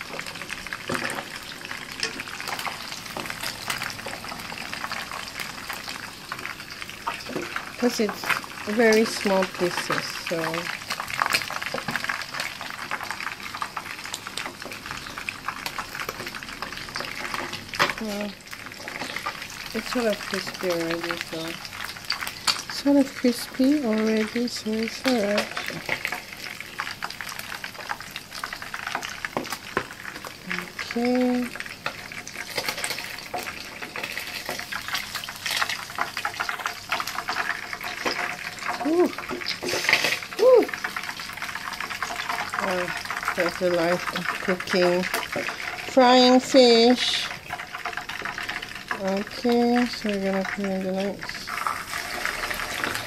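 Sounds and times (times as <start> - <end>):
fish frying in hot oil: 0.0 - 53.0.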